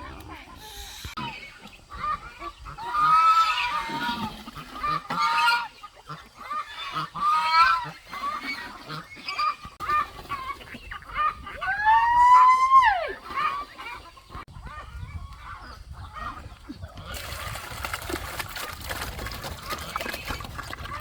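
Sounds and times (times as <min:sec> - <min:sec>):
geese honking: 0:00.0 - 0:17.1.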